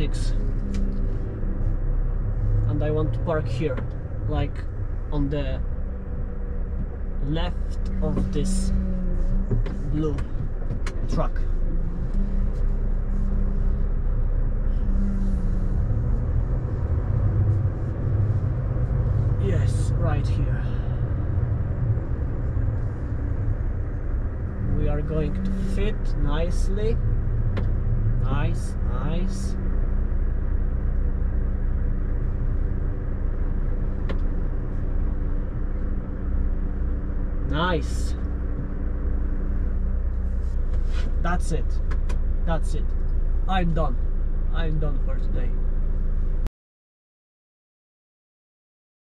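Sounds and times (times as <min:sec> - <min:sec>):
truck diesel engine rumbling: 0:00.0 - 0:46.5.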